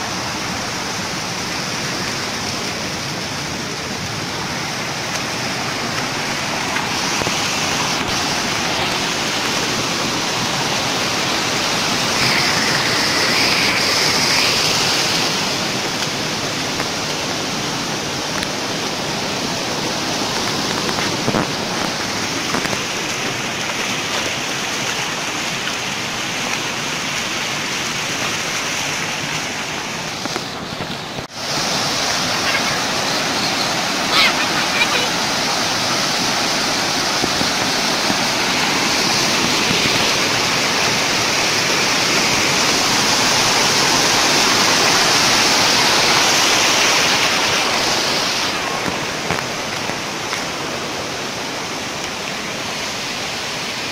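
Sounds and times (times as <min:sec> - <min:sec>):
water rushing over waterfall: 0:00.0 - 0:53.9.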